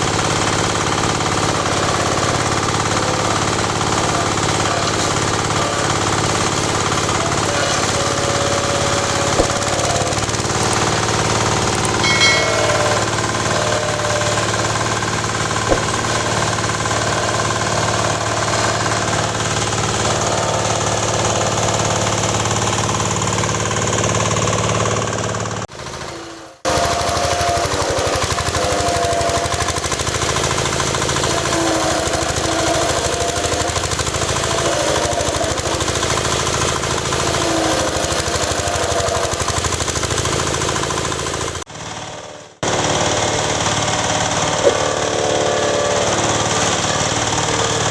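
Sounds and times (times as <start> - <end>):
wood crusher machine running: 0.0 - 47.9.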